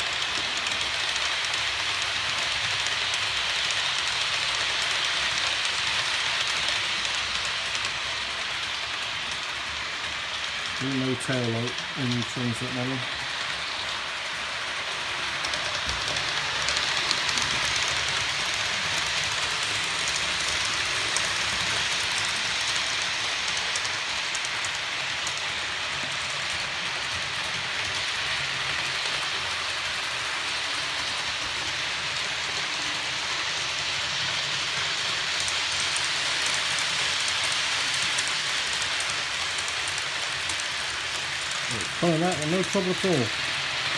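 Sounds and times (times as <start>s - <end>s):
model train wheels rattling on track: 0.0s - 43.9s.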